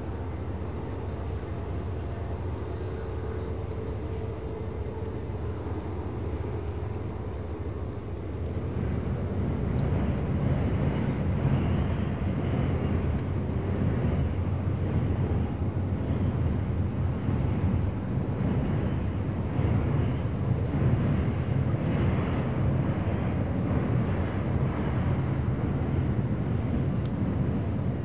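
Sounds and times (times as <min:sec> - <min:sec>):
distant train rumbling: 0:00.0 - 0:28.0.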